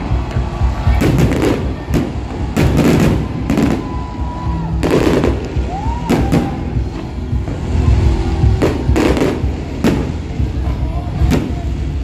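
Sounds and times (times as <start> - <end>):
fireworks bursting: 0.0 - 12.0
low rumble: 0.0 - 12.0.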